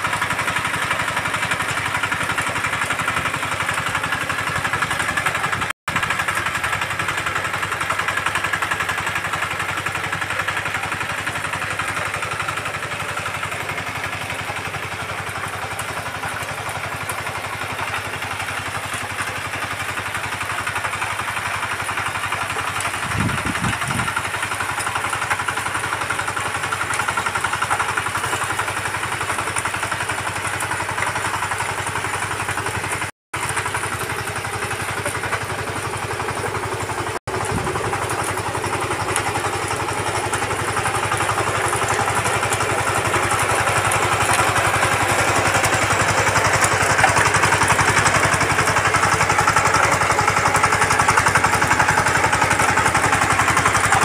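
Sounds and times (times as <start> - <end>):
diesel power tiller engine: 0.0 - 54.0
rotary tines tilling soil: 0.0 - 54.0.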